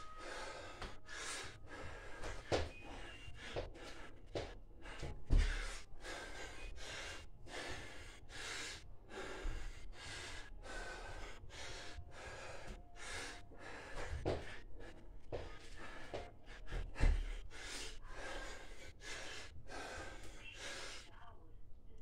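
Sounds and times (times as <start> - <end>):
man breathing hard: 0.0 - 21.1.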